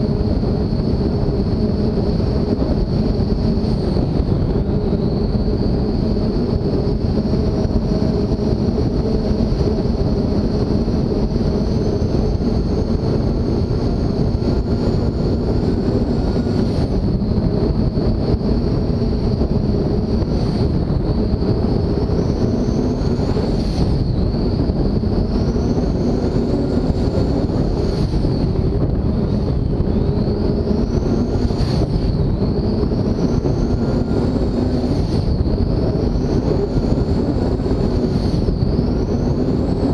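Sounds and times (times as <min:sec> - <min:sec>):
high engine whine: 0:00.0 - 0:39.9
race boat engines droning: 0:00.0 - 0:39.9.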